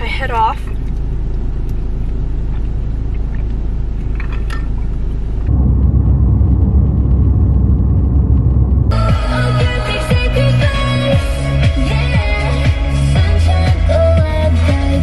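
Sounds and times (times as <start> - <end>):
car driving on highway: 0.0 - 15.0
car engine rumble inside cabin: 0.0 - 15.0.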